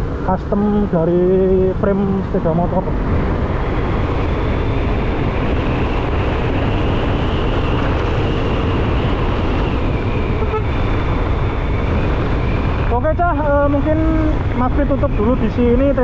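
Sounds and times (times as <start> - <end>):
high electric motor whine: 0.0 - 16.0
motorcycle road noise: 0.0 - 16.0
wind rushing over microphone: 0.0 - 16.0.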